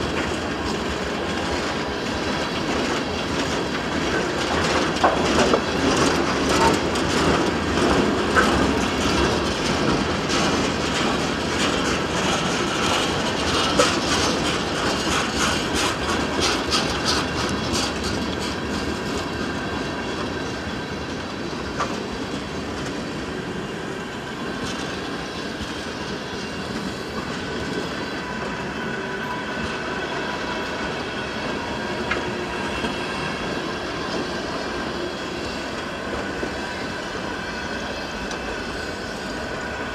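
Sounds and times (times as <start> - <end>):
train wheels clicking over rail joints: 0.0 - 39.8
train rumble: 0.0 - 39.9.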